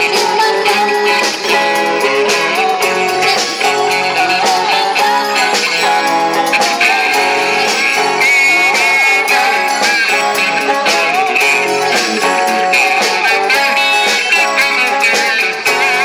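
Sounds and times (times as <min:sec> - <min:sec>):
electric guitar lead bending notes: 0:00.0 - 0:16.0
live rock band playing: 0:00.0 - 0:16.0.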